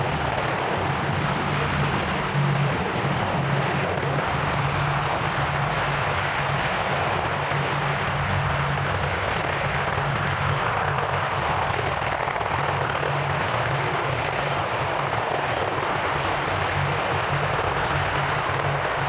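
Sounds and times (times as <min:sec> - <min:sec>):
helicopter turbine engines and rotor: 0:00.0 - 0:19.0.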